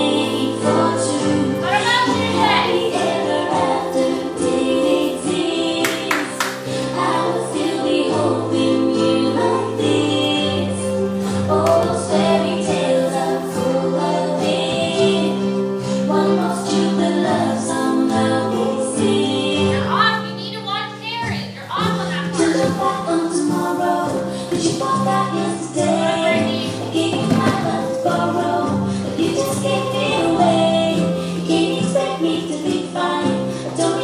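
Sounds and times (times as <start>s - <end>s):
several voices singing together: 0.0s - 19.9s, 22.1s - 34.0s
sustained musical accompaniment: 0.0s - 34.0s.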